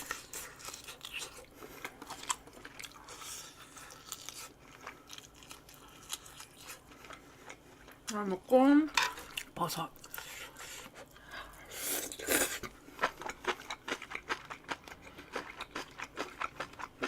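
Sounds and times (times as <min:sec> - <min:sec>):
chewing with crunches: 0:00.0 - 0:08.2, 0:09.2 - 0:17.0.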